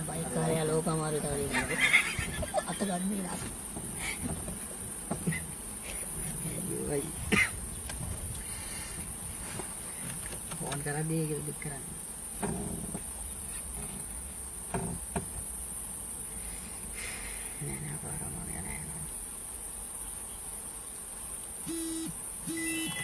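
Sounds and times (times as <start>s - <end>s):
insects high-pitched drone: 0.0s - 23.0s.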